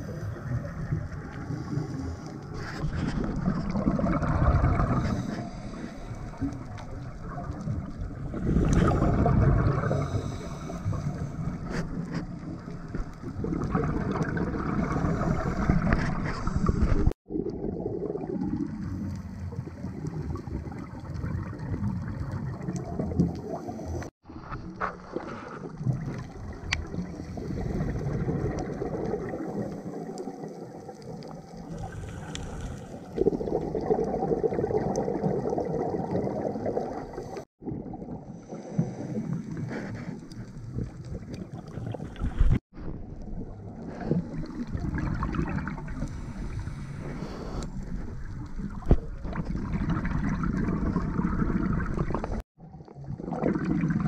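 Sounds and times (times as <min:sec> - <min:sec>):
diver exhaling bubbles: 0:00.0 - 0:24.1, 0:25.0 - 0:54.0
underwater water noise and gurgling: 0:00.0 - 0:54.0.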